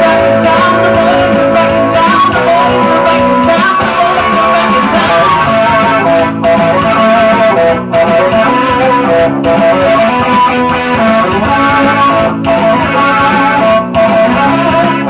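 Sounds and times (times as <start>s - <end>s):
electric guitar rock instrumental: 0.0s - 15.0s.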